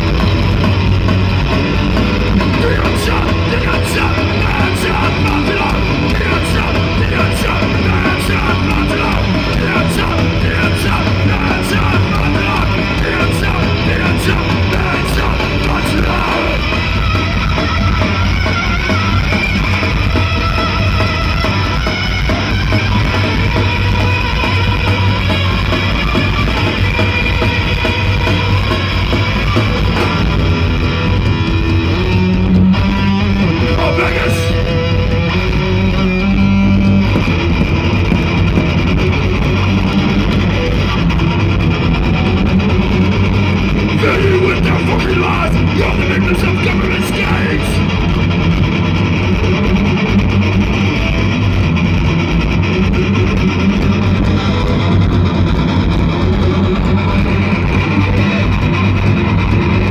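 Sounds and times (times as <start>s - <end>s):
bass guitar: 0.0s - 59.9s
distorted electric guitars: 0.0s - 59.9s
drums: 0.0s - 59.9s.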